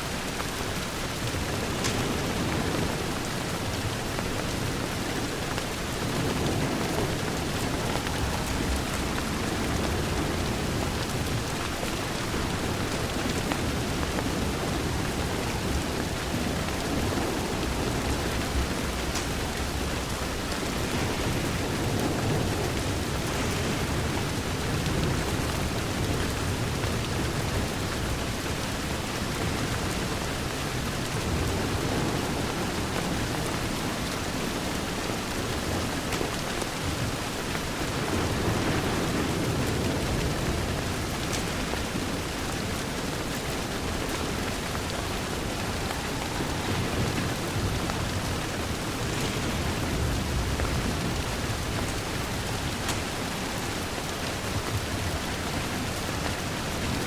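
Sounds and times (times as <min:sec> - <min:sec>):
rain against a window: 0:00.0 - 0:57.0.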